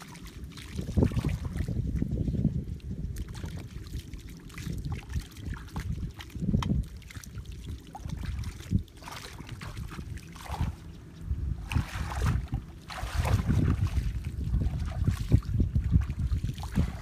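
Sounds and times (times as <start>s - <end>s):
legs wading through muddy water: 0.0s - 17.0s
wind rumble on microphone: 0.0s - 17.0s.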